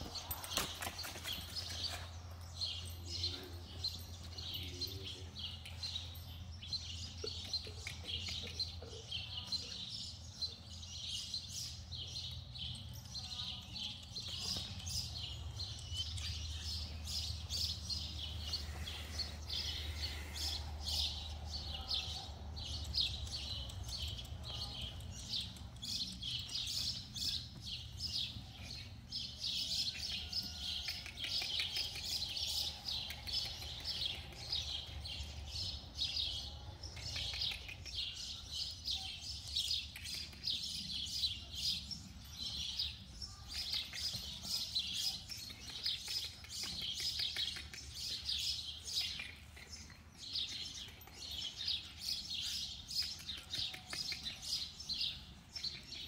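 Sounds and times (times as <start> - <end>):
small birds chirping: 0.1 - 56.0.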